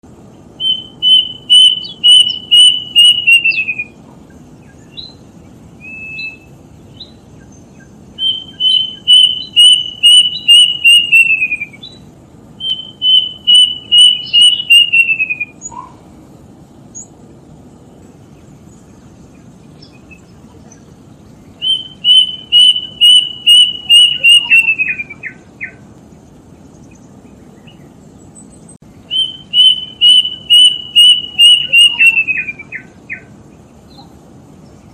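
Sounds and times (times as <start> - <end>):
bird whistling calls: 0.6 - 16.0, 18.9 - 25.8, 26.8 - 33.3.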